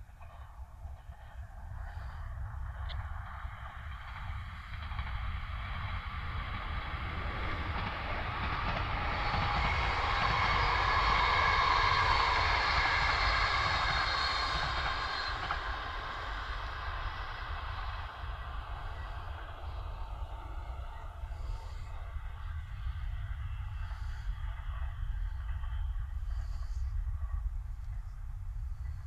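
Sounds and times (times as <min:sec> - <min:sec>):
train passing on rails: 0:00.0 - 0:29.0.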